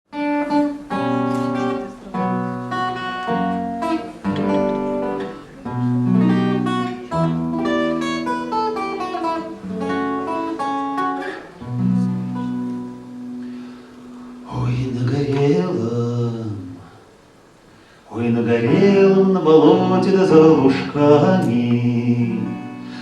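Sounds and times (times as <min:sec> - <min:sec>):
acoustic guitar picking: 0:00.1 - 0:23.0.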